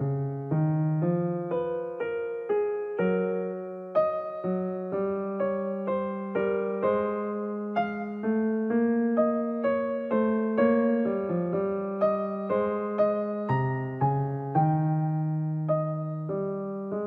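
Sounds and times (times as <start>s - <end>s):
calm piano melody: 0.0s - 17.0s.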